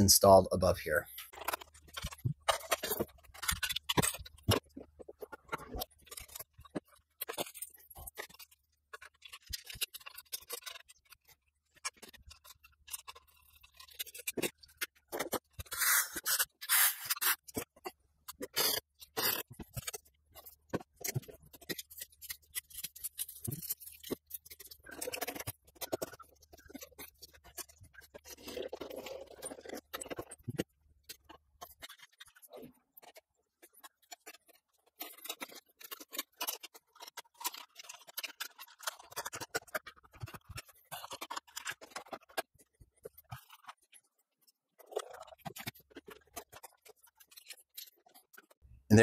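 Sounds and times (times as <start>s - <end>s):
plastic scraping and rustling: 1.0s - 48.5s.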